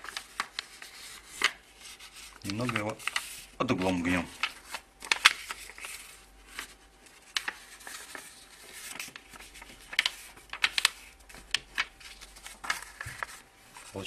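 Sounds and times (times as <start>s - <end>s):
paper crackling: 0.0s - 14.0s
paper crinkling and rustling: 0.0s - 14.0s.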